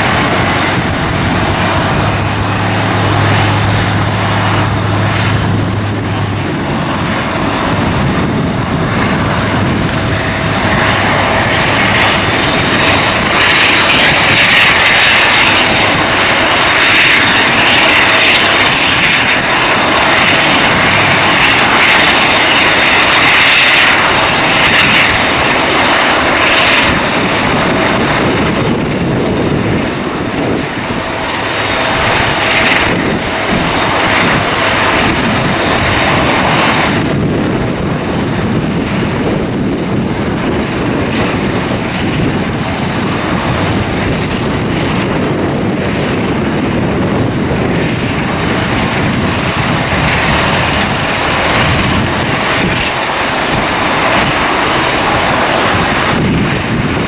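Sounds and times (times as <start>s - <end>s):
airliner engines running: 0.0s - 57.0s
broad rushing noise: 0.0s - 57.0s
high engine whine: 0.0s - 57.0s.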